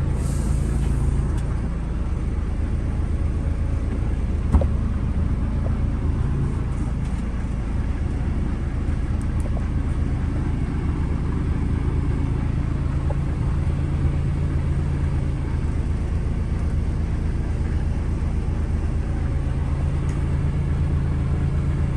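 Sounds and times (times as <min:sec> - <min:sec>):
diesel truck engine idling: 0:00.0 - 0:21.9.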